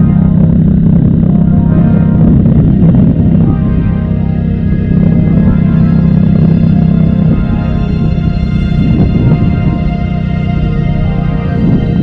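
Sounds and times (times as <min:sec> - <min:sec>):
music playing: 0:00.0 - 0:12.0
vehicle driving drone: 0:00.0 - 0:12.0.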